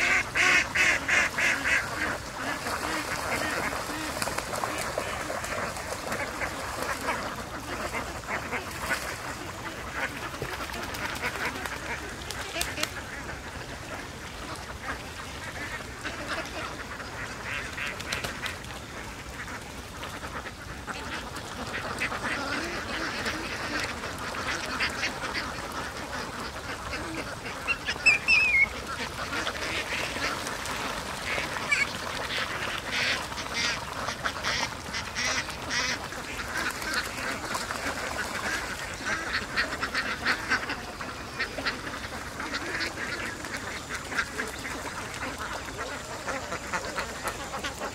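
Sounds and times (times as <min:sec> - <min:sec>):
ducks quacking: 0:00.0 - 0:47.9.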